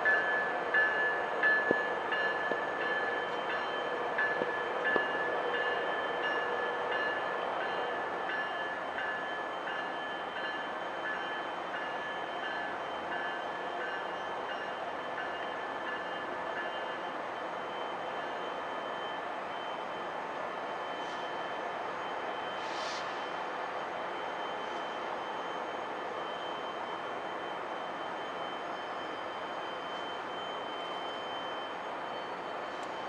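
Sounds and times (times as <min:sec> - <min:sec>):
high ringing tone: 0:00.0 - 0:22.6, 0:23.2 - 0:33.0
train departing: 0:00.0 - 0:33.0.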